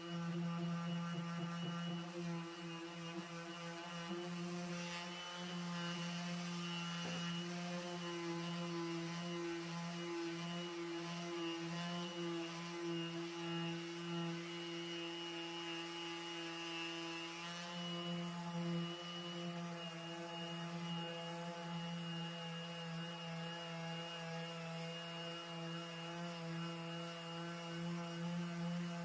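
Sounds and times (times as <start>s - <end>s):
electric disc sander running: 0.0s - 29.0s.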